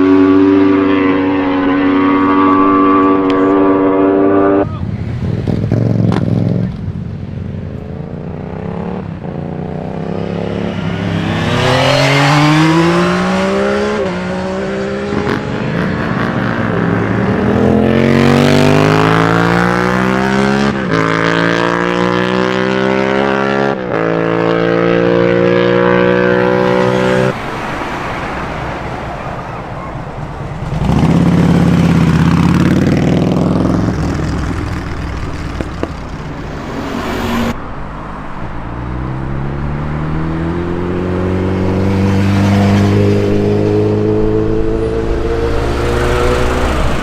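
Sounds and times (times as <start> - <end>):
motorcycle engine accelerating: 0.0 - 27.4, 30.6 - 47.0.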